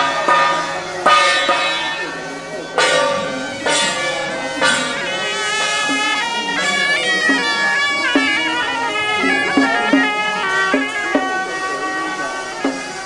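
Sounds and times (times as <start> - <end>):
cymbals clashing: 0.0 - 13.0
low drum beat: 0.0 - 13.0
wind instruments playing melody: 0.0 - 13.0.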